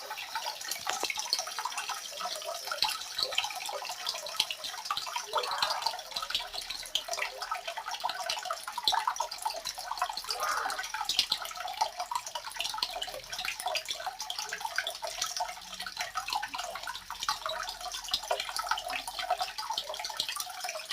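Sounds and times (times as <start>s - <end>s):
water trickling and splashing: 0.0s - 20.9s.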